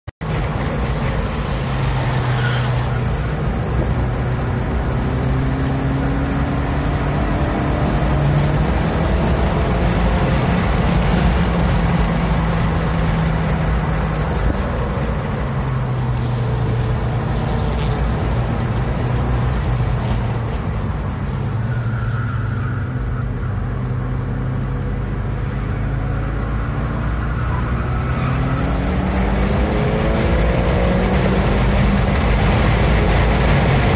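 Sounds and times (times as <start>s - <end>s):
car engine under hard throttle: 0.1s - 33.9s.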